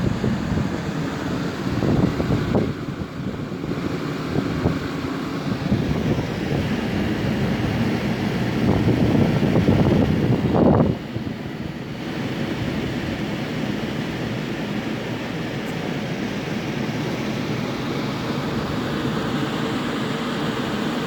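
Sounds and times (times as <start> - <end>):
air conditioner whirring hum: 0.0 - 21.0.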